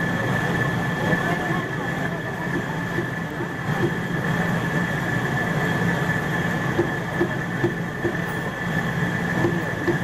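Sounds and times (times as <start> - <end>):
busy background noise: 0.0 - 10.0
high-pitched mechanical whine: 0.0 - 10.0.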